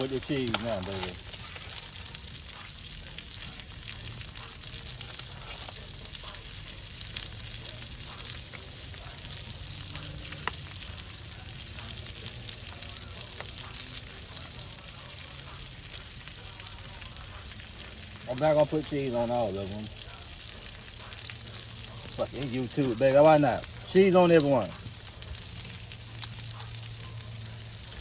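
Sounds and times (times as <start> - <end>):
burger patties sizzling: 0.0 - 28.0.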